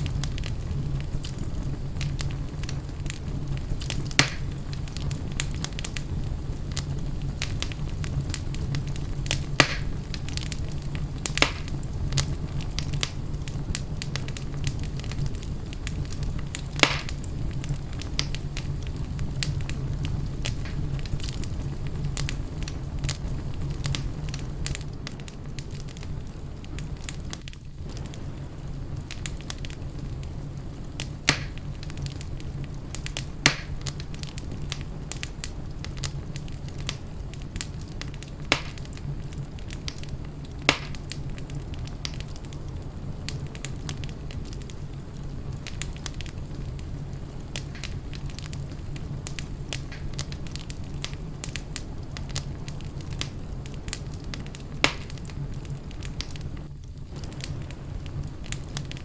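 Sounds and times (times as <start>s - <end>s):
fire pops and snaps: 0.0s - 59.0s
low rumble of flames: 0.0s - 59.0s.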